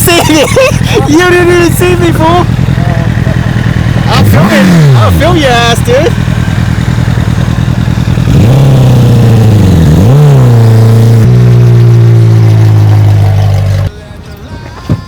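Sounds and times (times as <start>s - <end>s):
car engine accelerating: 0.0s - 13.9s.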